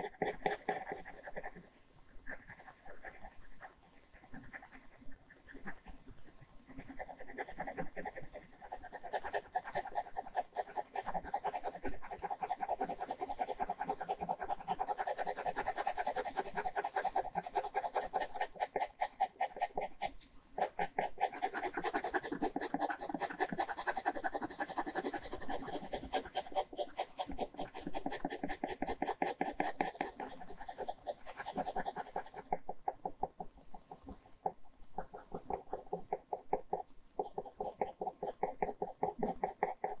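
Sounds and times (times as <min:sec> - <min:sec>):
ballpoint pen scratching on paper: 0:00.0 - 0:40.0.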